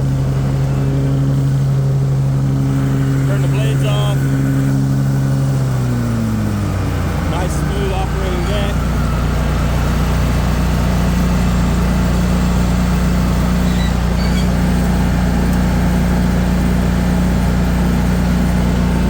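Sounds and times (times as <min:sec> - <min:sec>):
mower engine running: 0:00.0 - 0:19.0.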